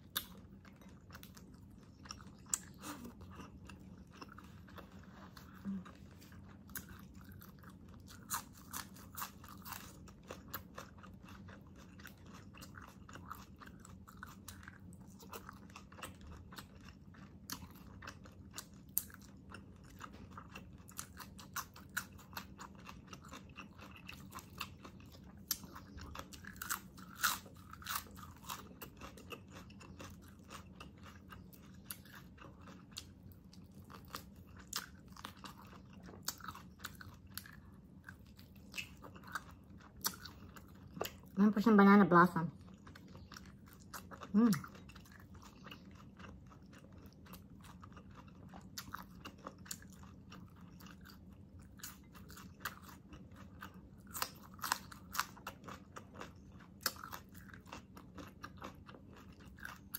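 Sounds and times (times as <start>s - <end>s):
person chewing and crunching food: 0.0s - 59.9s.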